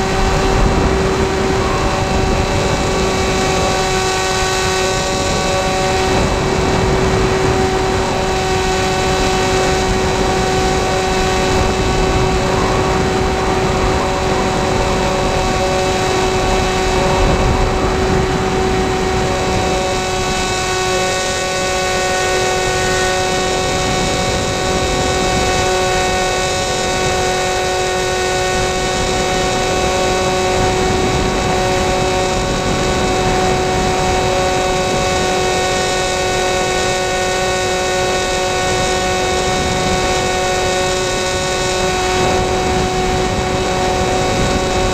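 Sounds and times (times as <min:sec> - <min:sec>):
electric motor and propeller whining: 0:00.0 - 0:44.9
wind buffeting microphone: 0:00.0 - 0:44.9.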